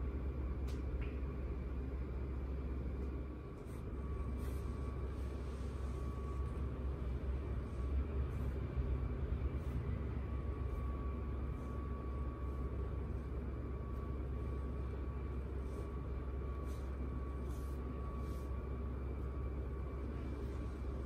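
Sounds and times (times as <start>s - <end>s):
faint thin whine: 0.0s - 21.0s
low room hum: 0.0s - 21.0s.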